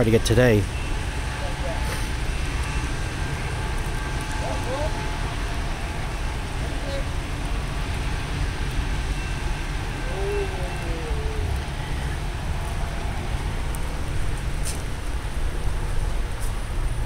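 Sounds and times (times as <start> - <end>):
pouring rain: 0.0 - 17.0.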